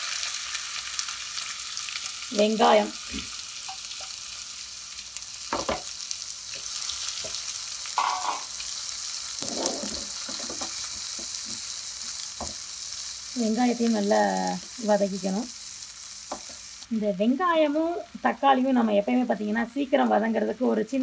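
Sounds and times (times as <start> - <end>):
onion sizzling in hot oil: 0.0 - 21.0.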